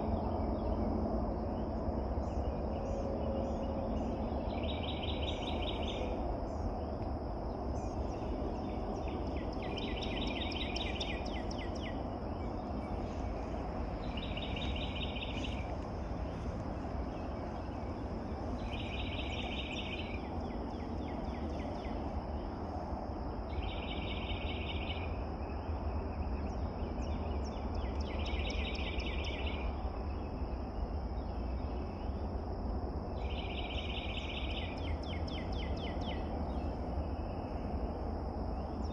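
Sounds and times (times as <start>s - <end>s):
low background rumble: 0.0s - 38.9s.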